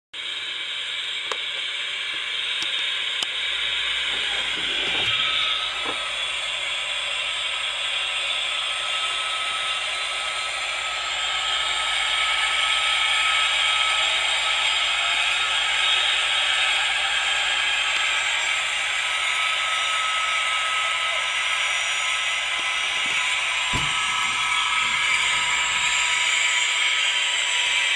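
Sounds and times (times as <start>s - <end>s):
jet engine sound through small speaker: 0.2s - 27.9s.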